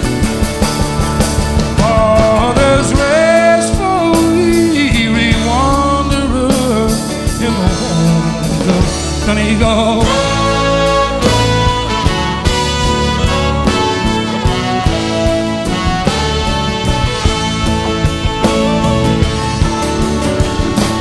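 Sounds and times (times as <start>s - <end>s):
song over steady beat: 0.0s - 21.0s.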